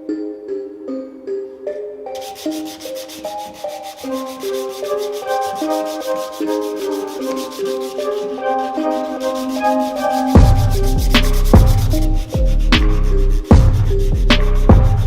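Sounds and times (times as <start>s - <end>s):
background music: 0.0s - 15.0s
sandpaper rubbing on metal rim: 2.2s - 15.0s.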